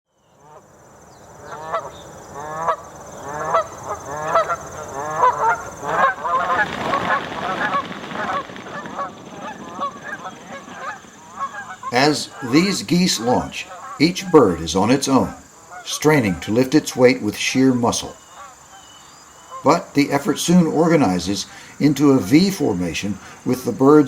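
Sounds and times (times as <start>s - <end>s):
geese honking: 1.4s - 24.0s.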